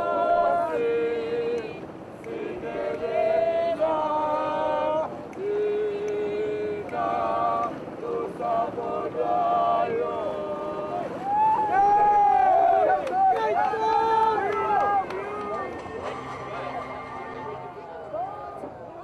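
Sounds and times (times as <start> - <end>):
group singing unaccompanied: 0.0 - 17.8.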